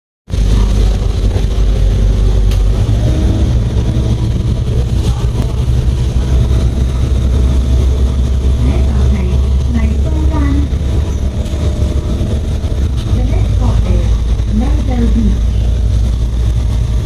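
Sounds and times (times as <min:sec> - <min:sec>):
vehicle interior drone: 0:00.3 - 0:17.0.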